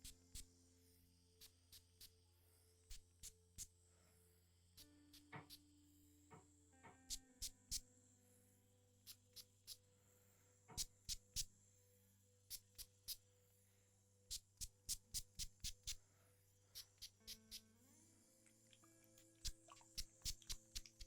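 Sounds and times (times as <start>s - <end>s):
faint steady background tones: 0.0s - 21.0s.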